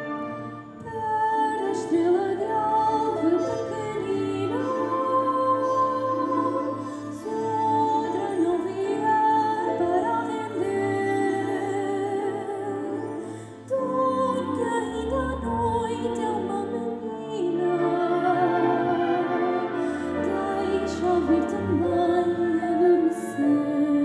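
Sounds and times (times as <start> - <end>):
chamber ensemble playing: 0.0 - 24.0
woman singing: 0.0 - 24.0.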